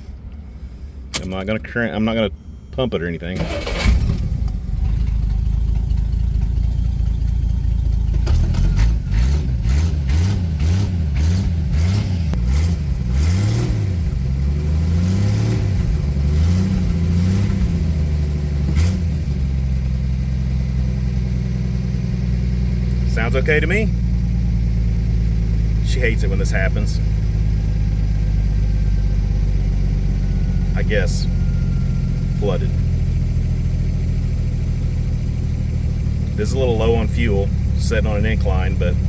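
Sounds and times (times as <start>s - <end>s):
car engine revving and idling: 3.3s - 39.0s.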